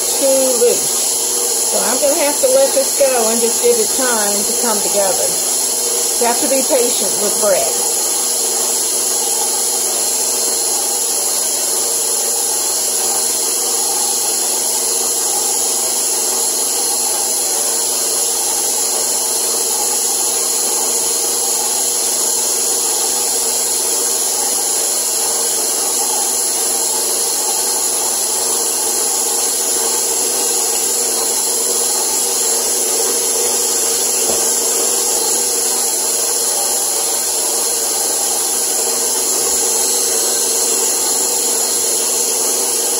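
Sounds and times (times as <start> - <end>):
stand mixer kneading dough: 0.0 - 42.9.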